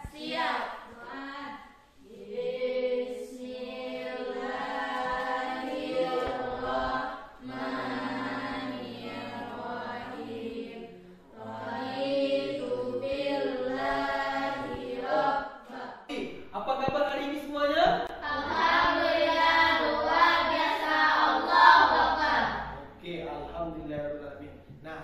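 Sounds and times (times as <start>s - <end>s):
children chanting a prayer: 0.0s - 16.1s, 18.2s - 22.9s.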